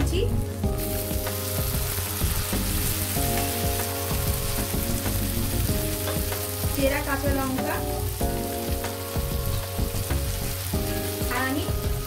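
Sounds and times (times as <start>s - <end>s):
tomatoes sizzling in hot oil: 0.0s - 12.0s.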